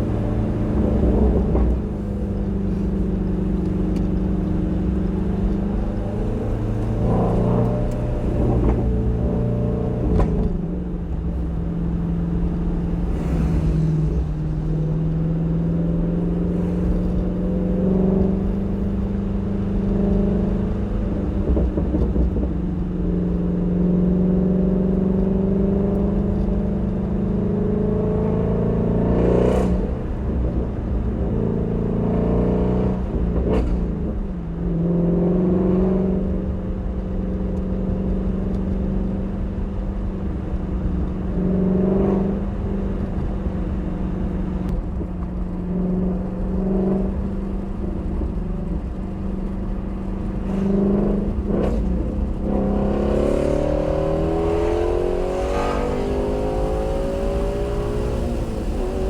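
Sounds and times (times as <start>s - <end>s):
car engine running at moderate revs: 0.0s - 59.0s.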